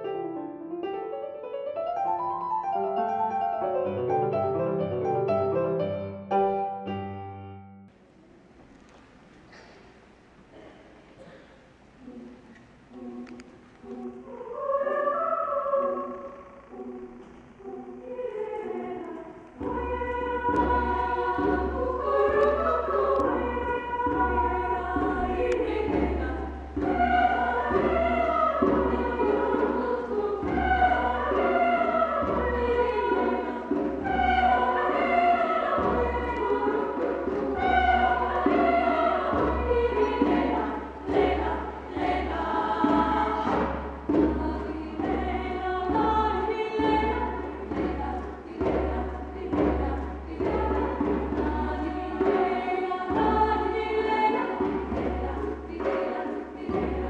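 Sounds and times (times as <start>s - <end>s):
choir singing: 11.2s - 57.0s.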